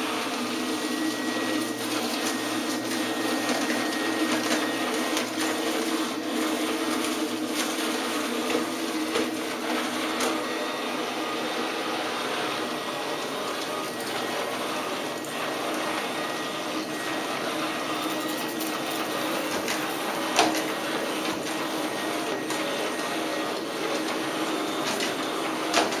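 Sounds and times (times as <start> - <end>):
robot vacuum cleaner running: 0.0 - 26.0.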